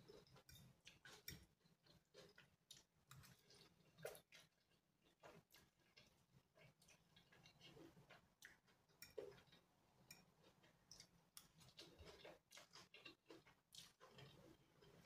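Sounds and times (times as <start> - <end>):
chewing and slurping noodles: 0.0 - 15.0.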